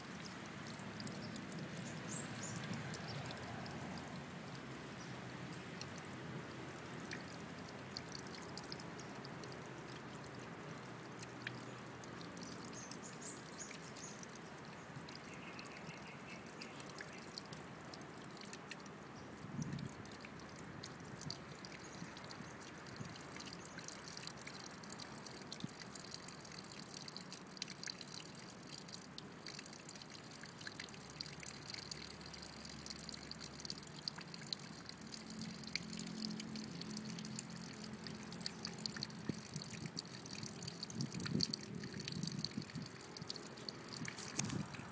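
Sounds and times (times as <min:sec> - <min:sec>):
water drips and splashes: 0:00.0 - 0:44.9
water trickling: 0:00.0 - 0:44.9.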